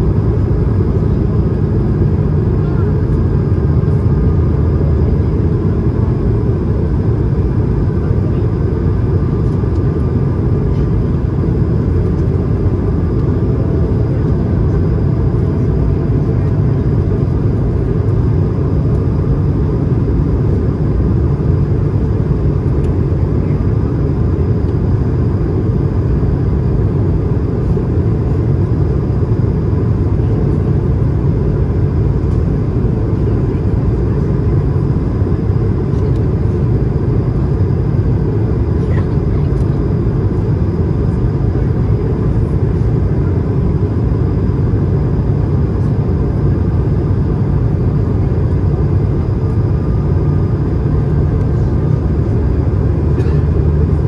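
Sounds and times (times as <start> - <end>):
aircraft cabin roar: 0.0 - 54.0.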